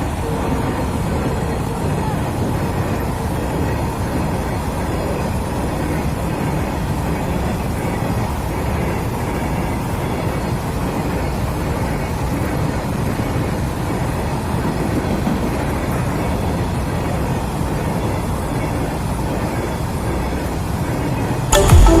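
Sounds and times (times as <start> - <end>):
train wheels rolling on track: 0.0 - 22.0.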